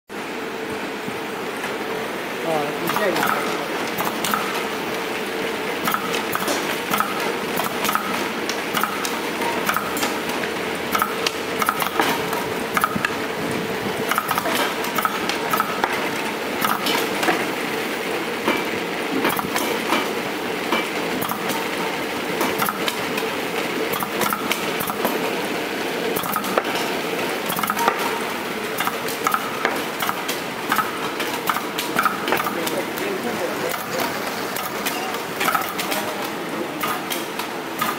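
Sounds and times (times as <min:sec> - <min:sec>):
sorting machine motor hum: 0:00.1 - 0:37.9.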